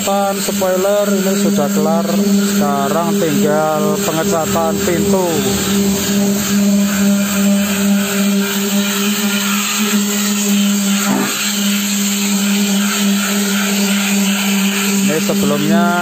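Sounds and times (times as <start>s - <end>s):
power tool motor humming: 0.0s - 16.0s.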